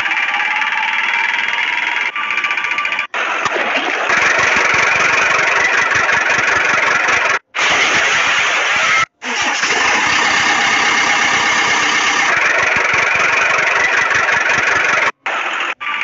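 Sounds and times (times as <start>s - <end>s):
engine running with rattle: 0.0s - 16.0s.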